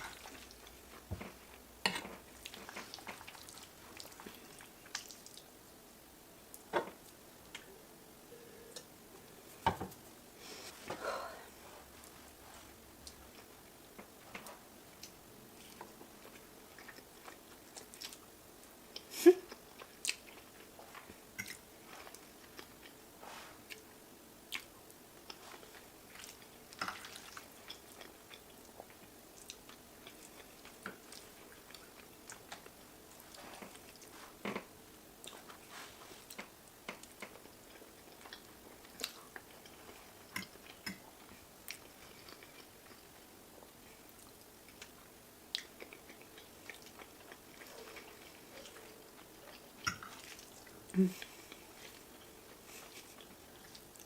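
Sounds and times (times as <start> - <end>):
person chewing food: 0.0 - 5.6, 11.6 - 54.0.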